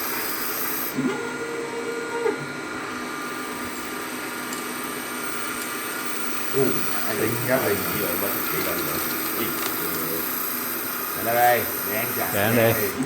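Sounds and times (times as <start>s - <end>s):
lathe machine noise: 0.0s - 13.0s.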